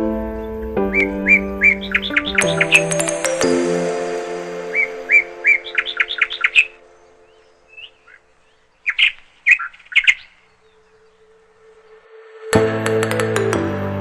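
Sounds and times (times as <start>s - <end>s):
bird chirping: 0.0s - 12.1s.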